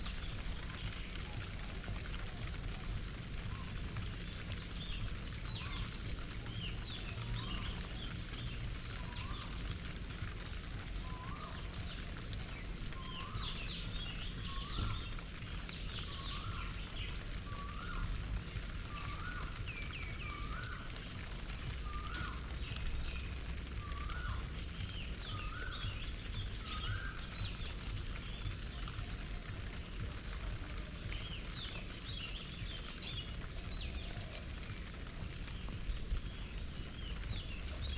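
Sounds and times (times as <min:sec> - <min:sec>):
birds chirping and twittering: 0:00.0 - 0:37.9
steady background hiss: 0:00.0 - 0:37.9.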